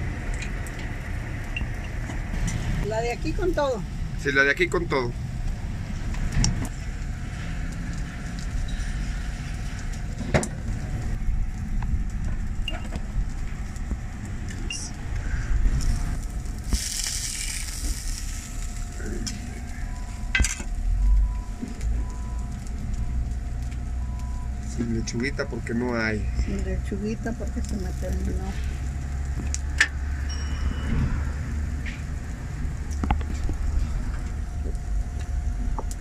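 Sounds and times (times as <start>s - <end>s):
burger patties sizzling: 0.0s - 30.3s.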